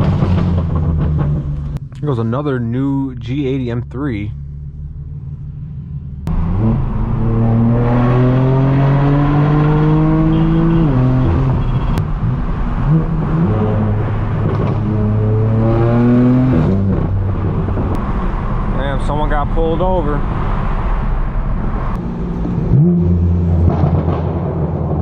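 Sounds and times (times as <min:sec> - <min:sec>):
car engine accelerating hard: 0:04.7 - 0:25.0.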